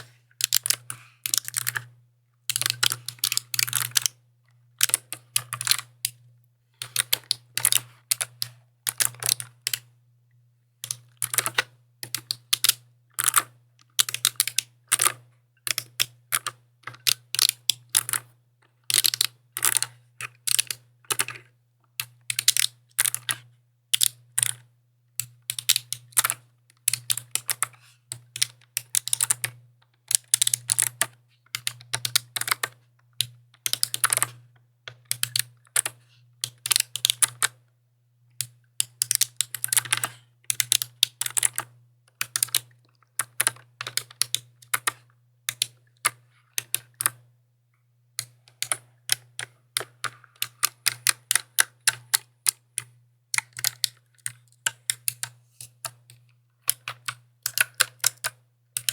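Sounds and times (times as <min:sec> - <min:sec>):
mechanical keyboard typing: 0:00.0 - 0:04.2, 0:04.8 - 0:06.2, 0:06.8 - 0:09.9, 0:10.8 - 0:18.3, 0:18.9 - 0:21.4, 0:22.0 - 0:37.6, 0:38.4 - 0:47.2, 0:48.2 - 0:58.9.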